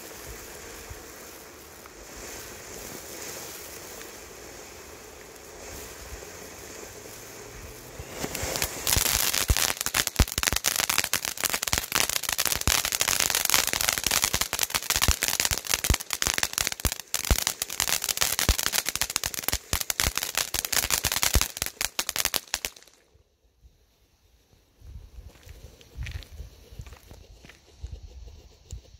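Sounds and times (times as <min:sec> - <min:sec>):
firework crackling pops: 0:00.0 - 0:23.2
firework fountain hissing: 0:00.0 - 0:28.9.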